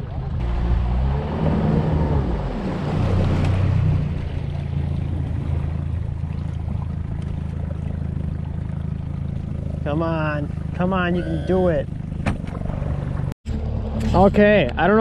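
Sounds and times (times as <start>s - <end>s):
outboard motor running: 0.0s - 15.0s
water rushing along hull: 0.0s - 15.0s.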